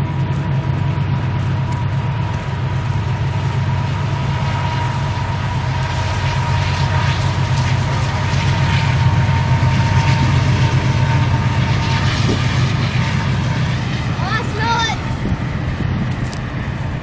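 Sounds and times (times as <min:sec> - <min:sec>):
footsteps on dry ground: 0:00.0 - 0:17.0
wind buffeting microphone: 0:00.0 - 0:17.0.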